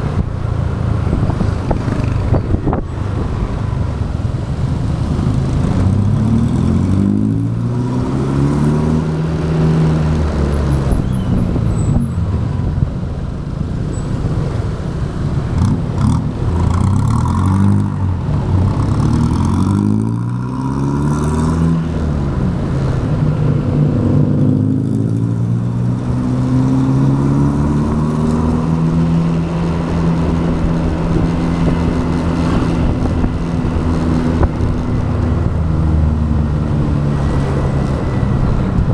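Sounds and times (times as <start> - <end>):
motorbike engine revving: 0.0 - 12.5, 14.4 - 38.9
road and wind noise: 0.0 - 38.9.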